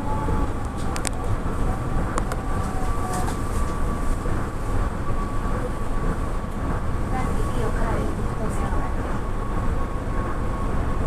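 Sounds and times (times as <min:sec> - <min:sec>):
monorail car rumbling: 0:00.0 - 0:11.0.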